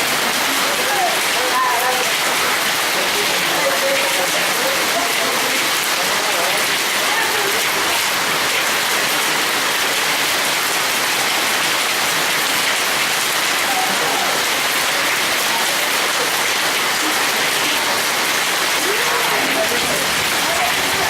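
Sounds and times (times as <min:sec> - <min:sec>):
hail and heavy rain falling: 0:00.0 - 0:21.0.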